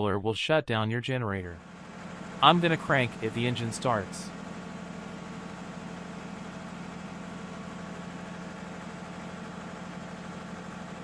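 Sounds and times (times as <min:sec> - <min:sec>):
machine drone with fast pulse: 0:01.6 - 0:11.0.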